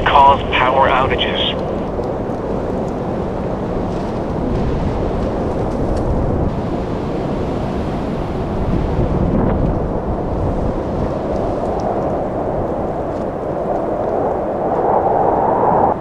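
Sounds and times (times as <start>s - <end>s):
strong gusting wind: 0.0s - 16.0s.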